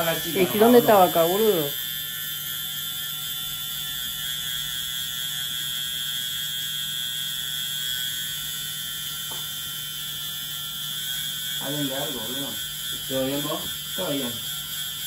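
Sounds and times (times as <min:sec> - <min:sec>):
tattoo machine buzzing: 0:00.0 - 0:15.0.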